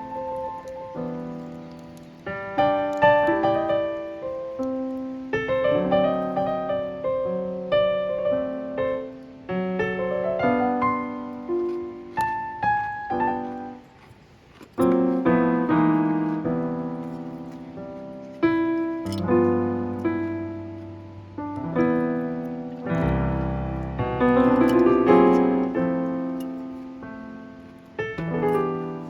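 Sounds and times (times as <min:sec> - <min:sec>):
solo piano melody: 0:00.0 - 0:29.0.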